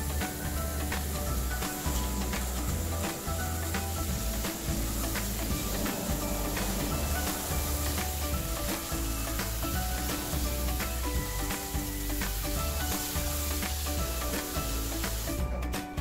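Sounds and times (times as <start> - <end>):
hose spray hissing on soil: 0.0 - 15.5
background music: 0.0 - 16.0.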